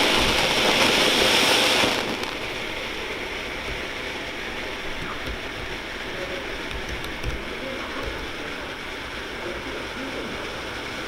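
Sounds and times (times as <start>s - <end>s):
faint crackles: 0.0s - 11.0s
firework fountain hissing: 0.0s - 11.0s.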